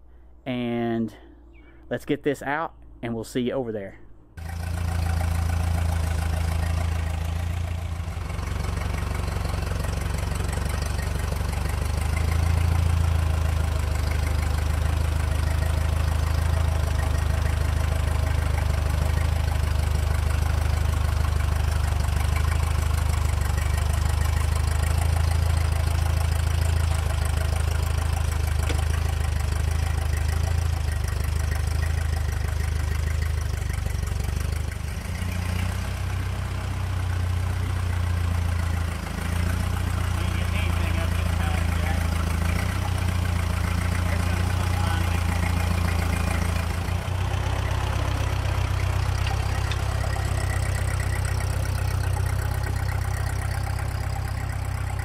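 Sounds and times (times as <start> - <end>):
tractor engine running: 3.8 - 55.0.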